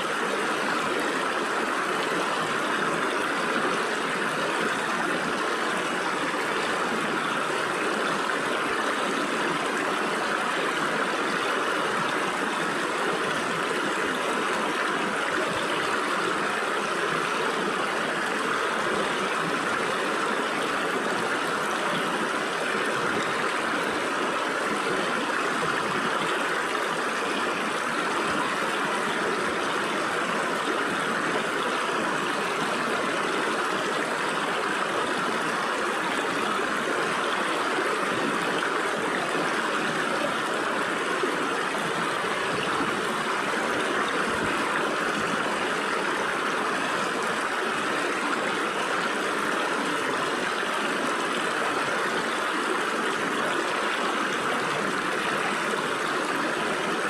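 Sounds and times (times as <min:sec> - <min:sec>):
stream water splashing over rocks: 0:00.0 - 0:57.0.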